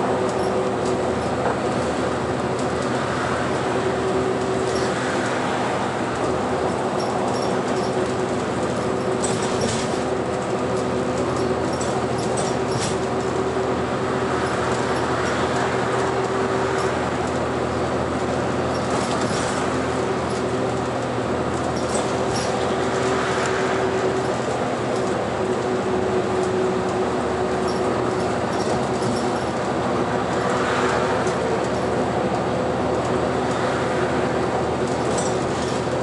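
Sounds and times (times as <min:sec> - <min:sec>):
bus engine and road drone: 0:00.0 - 0:36.0
constant whine: 0:00.0 - 0:36.0.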